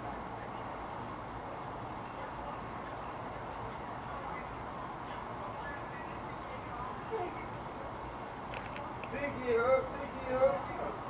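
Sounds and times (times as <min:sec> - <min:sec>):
crickets trilling: 0:00.0 - 0:11.0
low background noise: 0:00.0 - 0:11.0.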